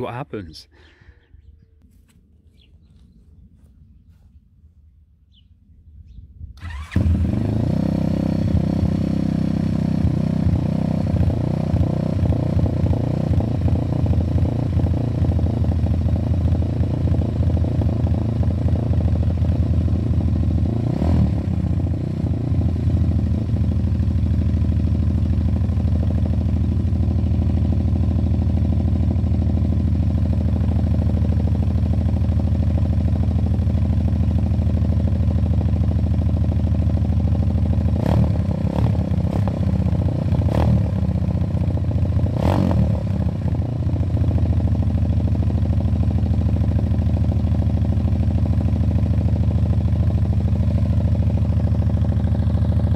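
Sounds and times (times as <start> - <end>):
motorcycle engine running unevenly: 6.6 - 52.9.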